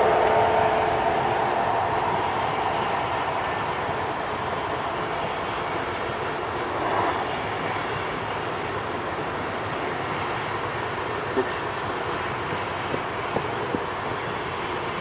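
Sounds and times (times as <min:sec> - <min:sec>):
train wheels rolling on rails: 0:00.0 - 0:15.0.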